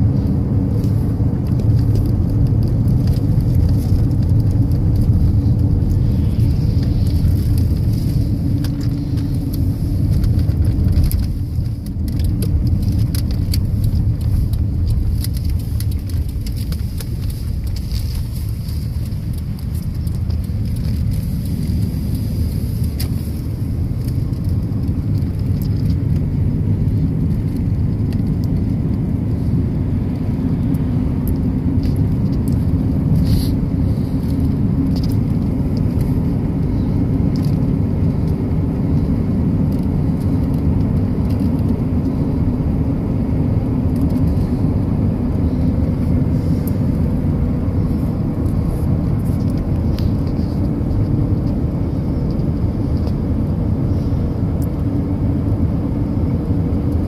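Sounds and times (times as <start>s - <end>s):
car interior engine and tyre rumble: 0.0s - 57.0s.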